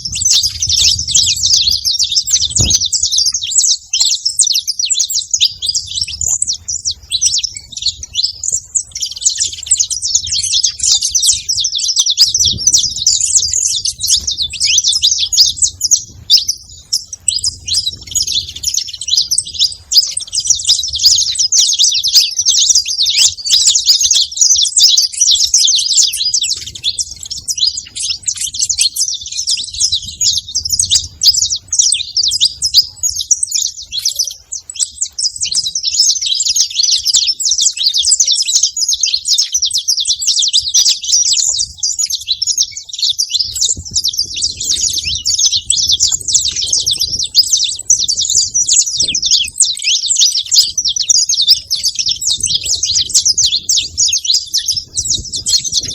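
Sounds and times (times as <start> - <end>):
finch chirping and trilling: 0.0 - 55.9.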